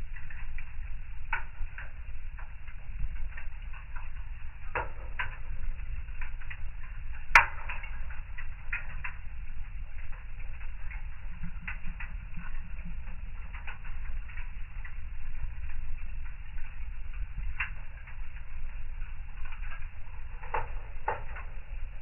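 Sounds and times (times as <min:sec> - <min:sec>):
fire crackling and popping: 0:00.0 - 0:22.0
low steady fire rumble: 0:00.0 - 0:22.0.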